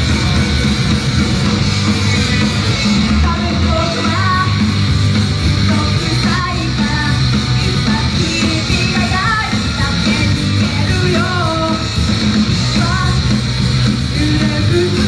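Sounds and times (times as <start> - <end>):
live rock music with guitar: 0.0 - 15.0.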